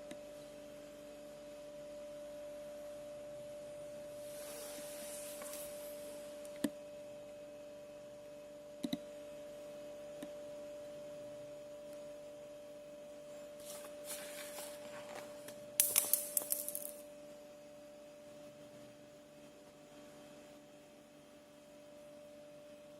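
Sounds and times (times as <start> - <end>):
steady electrical hum: 0.0 - 22.9.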